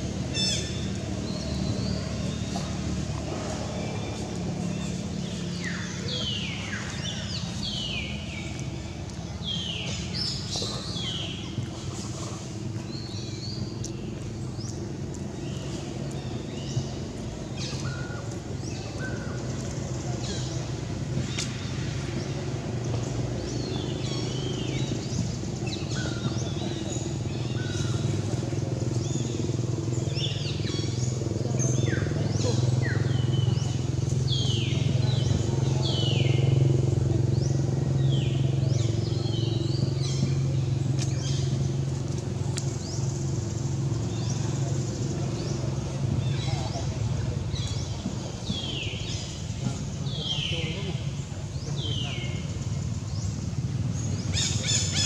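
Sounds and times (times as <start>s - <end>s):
birds chirping: 0.0s - 55.0s
motor engine running: 0.0s - 55.0s.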